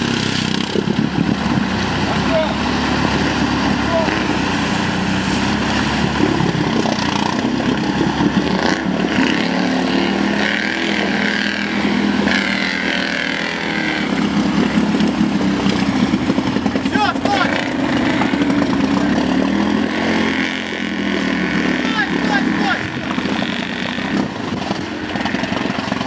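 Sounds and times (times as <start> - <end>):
atv engines running and revving: 0.0 - 26.0.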